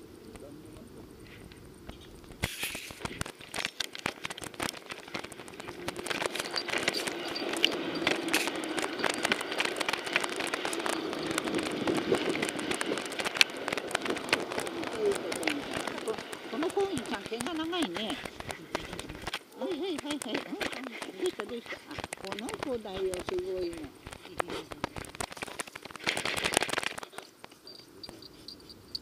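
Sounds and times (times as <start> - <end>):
crackling rubbing on camera: 0.0 - 29.0.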